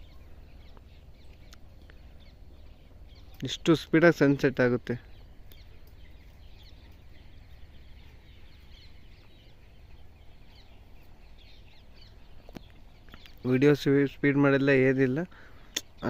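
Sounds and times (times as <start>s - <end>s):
low steady rumble: 0.0s - 13.3s
birds chirping: 0.0s - 16.0s.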